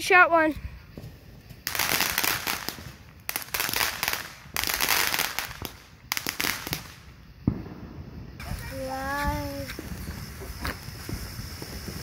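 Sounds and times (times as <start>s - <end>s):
firework hissing and crackling: 0.0s - 12.0s.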